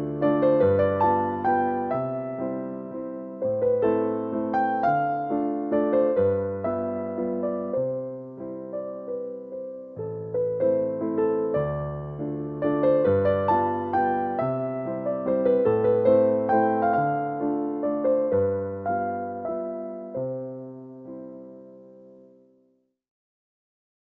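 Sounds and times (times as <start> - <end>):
electric piano slow melody: 0.0 - 22.6.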